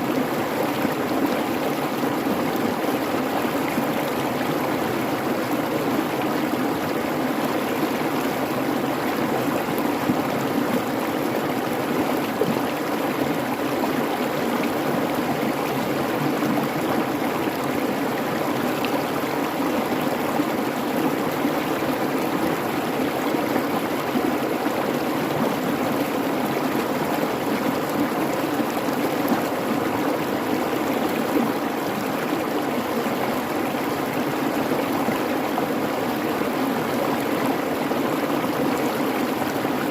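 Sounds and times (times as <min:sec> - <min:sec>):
babbling creek: 0:00.0 - 0:39.9.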